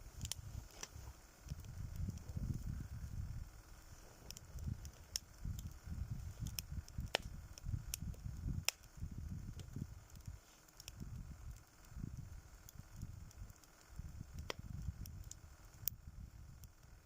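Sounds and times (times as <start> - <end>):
campfire crackling and popping: 0.0 - 17.0
low uneven rumble: 0.0 - 17.0.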